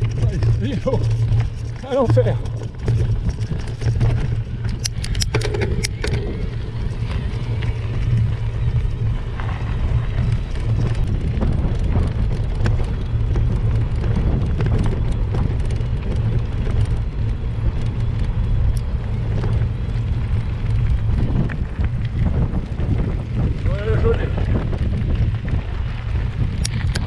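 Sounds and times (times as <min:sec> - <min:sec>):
tyres ticking on gravel: 0:00.0 - 0:27.0
wind buffeting microphone: 0:00.0 - 0:27.0.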